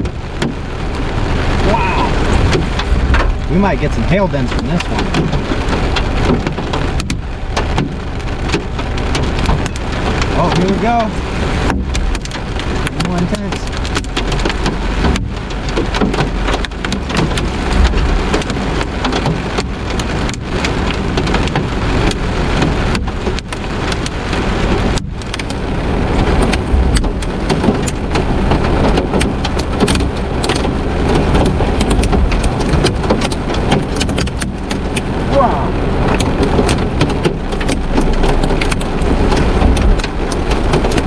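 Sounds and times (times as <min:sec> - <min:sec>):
hail pounding a vehicle roof: 0:00.0 - 0:41.0.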